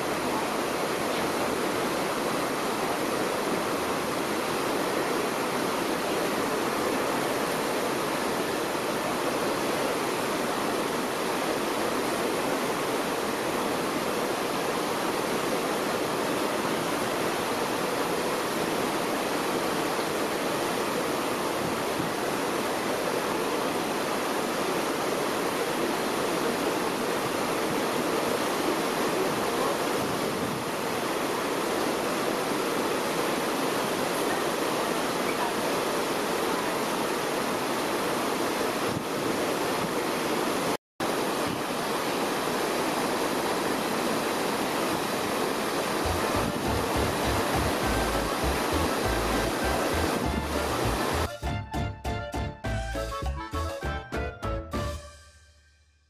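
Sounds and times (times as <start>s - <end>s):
rushing sea water: 0.0s - 51.4s
wind: 0.0s - 51.5s.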